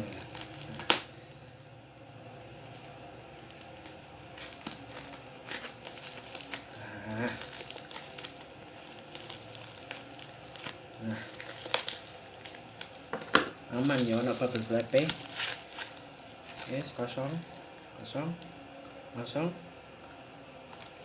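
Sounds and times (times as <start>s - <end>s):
plastic packaging crinkling: 0.0s - 19.3s.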